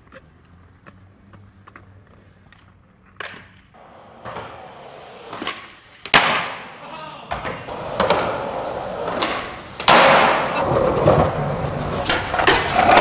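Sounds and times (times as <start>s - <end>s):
skateboard wheels rolling on concrete: 0.0s - 13.0s
skateboard clacking: 1.6s - 6.7s, 7.3s - 13.0s.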